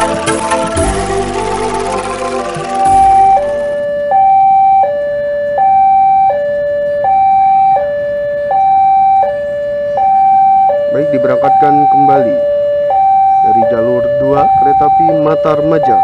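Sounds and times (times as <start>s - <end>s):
two-tone level crossing alarm: 0.0s - 16.0s.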